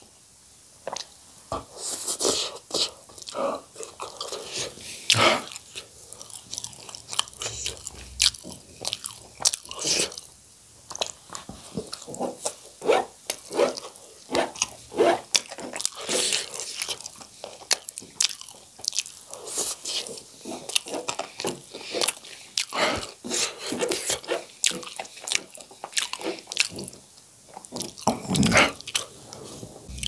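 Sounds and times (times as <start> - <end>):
person chewing noodles: 0.9 - 10.3, 10.9 - 30.0.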